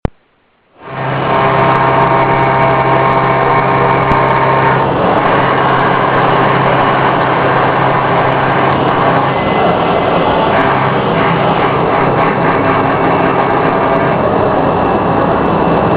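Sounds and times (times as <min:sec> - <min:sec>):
machining spindle hum: 0:00.0 - 0:15.9.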